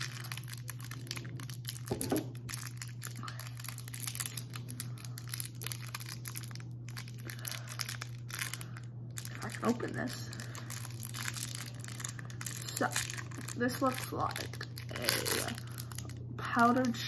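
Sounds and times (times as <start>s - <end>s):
plastic wrapper crinkling: 0.0s - 17.0s.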